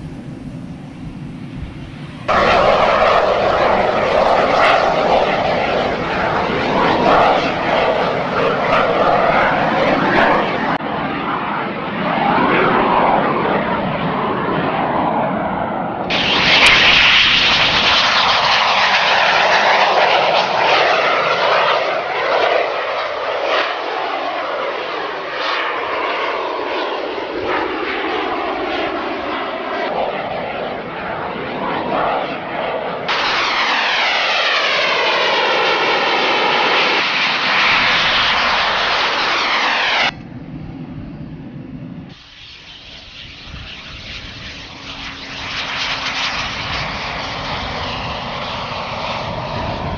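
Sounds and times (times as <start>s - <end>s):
airplane engines flying past: 0.0s - 49.9s.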